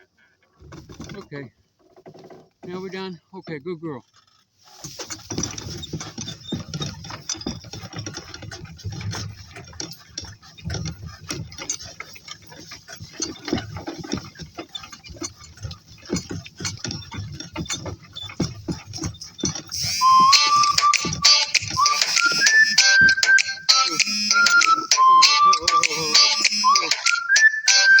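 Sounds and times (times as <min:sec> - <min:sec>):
rustling: 0:04.0 - 0:28.0
footsteps: 0:04.6 - 0:28.0
clicks and knocks: 0:04.9 - 0:28.0.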